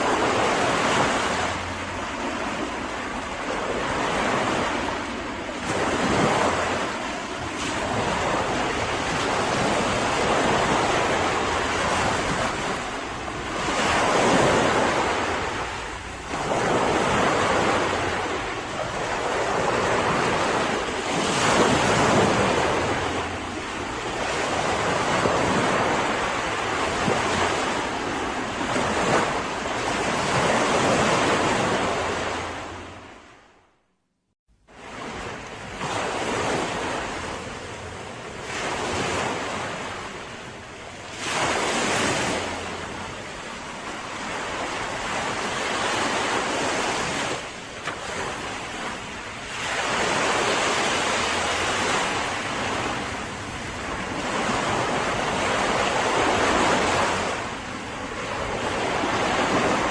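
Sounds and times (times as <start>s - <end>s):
sea waves breaking on shore: 0.0s - 33.6s, 34.7s - 59.9s.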